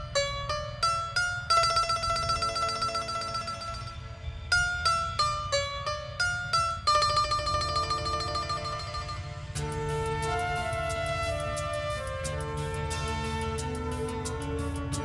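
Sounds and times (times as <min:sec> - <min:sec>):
plucked string instrument melody: 0:00.0 - 0:15.0
steady low hum: 0:00.0 - 0:15.0.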